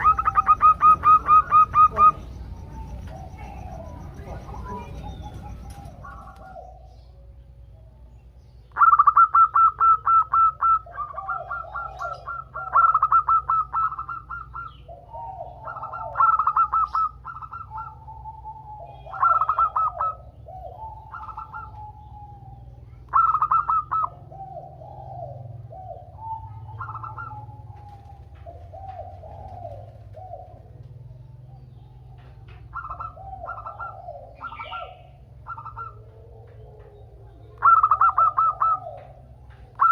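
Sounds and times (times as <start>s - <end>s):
faint low hum: 0.0s - 39.9s
zebra doves calling: 0.0s - 39.9s.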